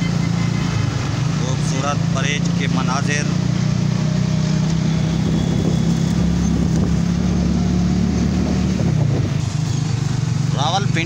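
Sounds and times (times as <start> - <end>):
road and traffic noise: 0.0 - 11.0
vehicle engine drone: 0.0 - 11.0.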